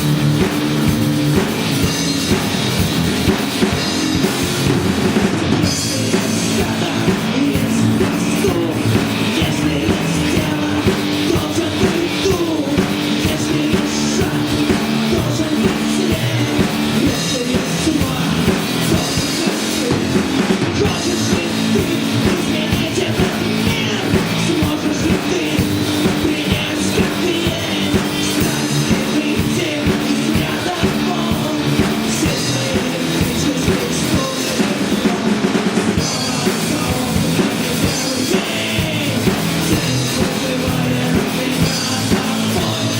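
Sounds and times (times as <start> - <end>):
drum kit beat: 0.0 - 42.9
live rock band playing: 0.0 - 42.9
faint sung vocal: 5.6 - 42.9.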